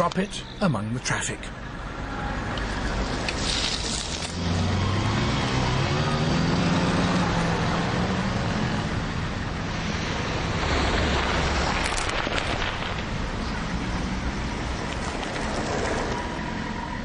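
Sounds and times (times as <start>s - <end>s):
cars driving past: 1.6s - 17.0s.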